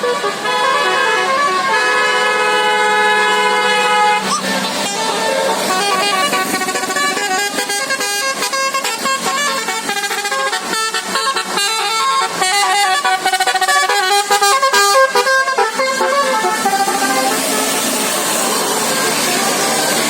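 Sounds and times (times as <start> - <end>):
musical air horn melody: 0.0 - 19.6.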